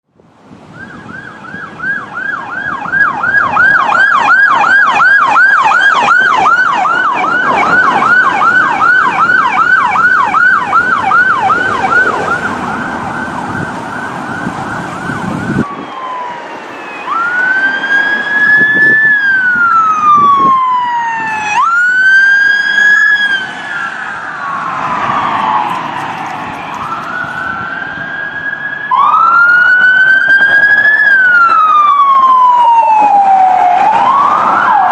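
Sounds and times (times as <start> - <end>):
electronic police siren: 0.5 - 34.9.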